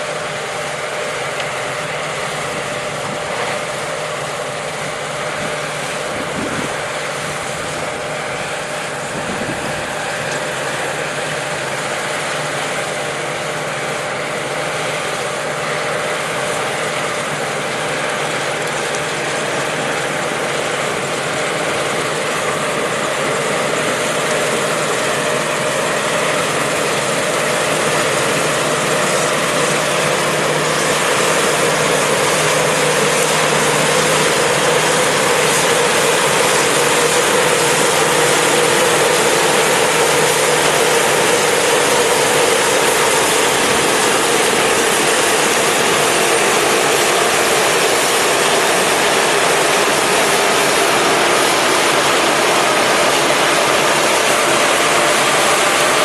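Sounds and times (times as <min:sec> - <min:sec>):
combine harvester engine: 0:00.0 - 0:56.0
rattling harvester machinery: 0:00.0 - 0:56.0.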